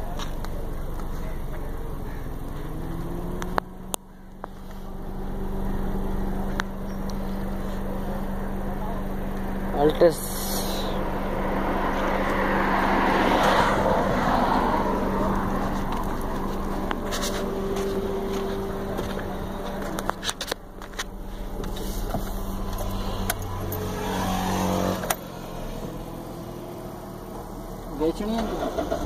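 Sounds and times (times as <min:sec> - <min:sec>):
car engine humming: 0:00.0 - 0:29.0.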